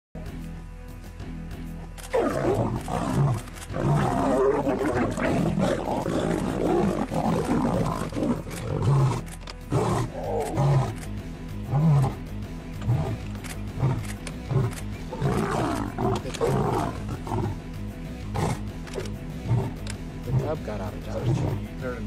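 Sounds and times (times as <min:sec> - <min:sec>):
background music: 0:00.2 - 0:22.0
lions snarling and growling: 0:02.0 - 0:21.6.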